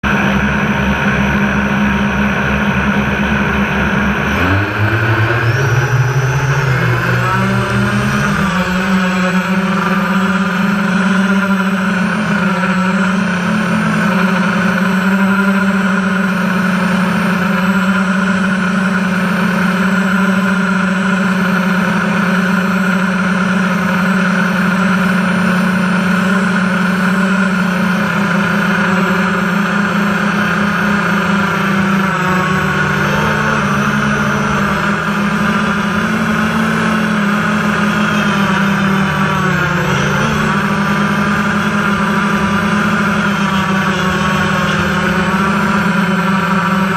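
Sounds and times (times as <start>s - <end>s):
model aircraft propellers buzzing: 0.0s - 46.9s.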